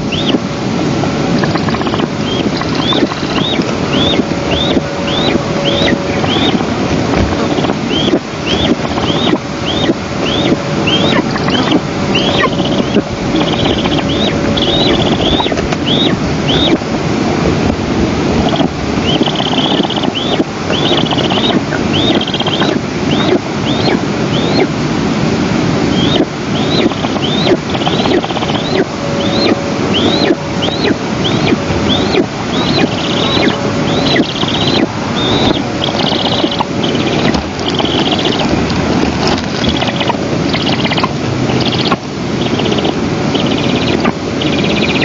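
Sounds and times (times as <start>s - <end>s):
eagle chick begging calls: 0.0s - 0.4s, 1.3s - 16.8s, 18.4s - 24.8s, 25.9s - 45.0s
buzzy bird trills: 0.0s - 0.5s, 1.3s - 16.8s, 18.4s - 24.8s, 25.9s - 45.0s
wind on microphone: 0.0s - 45.0s.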